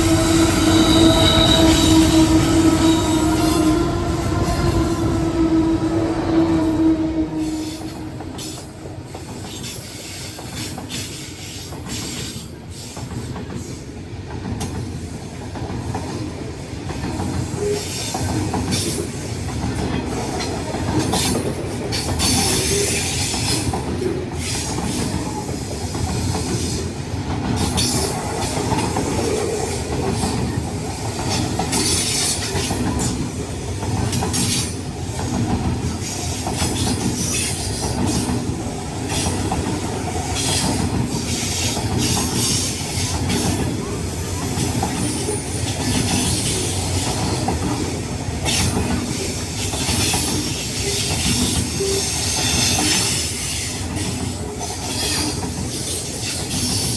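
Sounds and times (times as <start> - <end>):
train wagons rumbling: 0.0 - 56.9.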